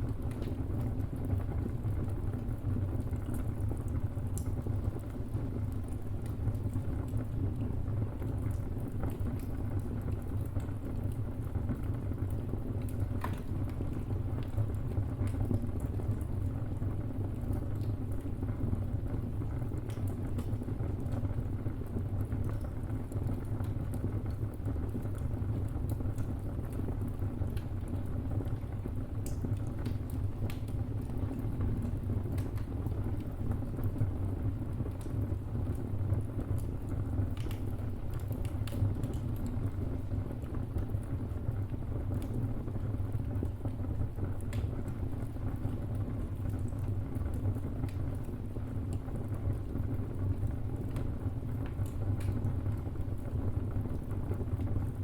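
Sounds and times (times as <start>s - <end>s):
fire crackles and pops: 0.0s - 55.0s
wood fire rumble: 0.0s - 55.0s.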